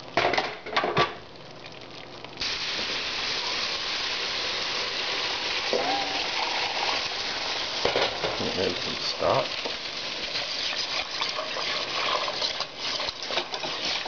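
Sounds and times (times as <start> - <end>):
stock sizzling in hot pot: 0.0 - 14.0.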